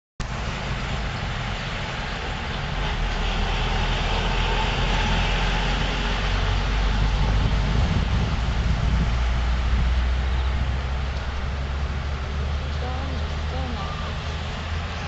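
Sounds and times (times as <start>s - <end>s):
car tyres and engine rumble: 0.2s - 15.0s
wind and road hiss: 0.2s - 15.0s.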